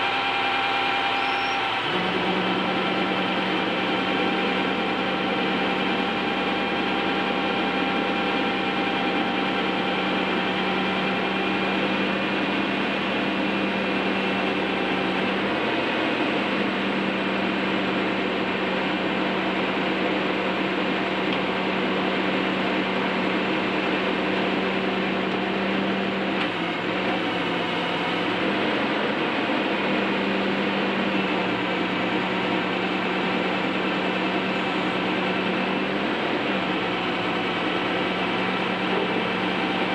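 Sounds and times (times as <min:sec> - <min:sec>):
truck mechanical hum: 0:00.0 - 0:39.9.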